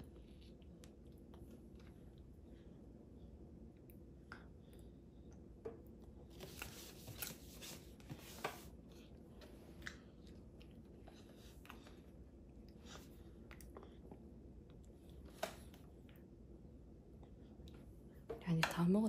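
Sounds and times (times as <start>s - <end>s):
toddler chewing and smacking food: 0.0s - 18.5s.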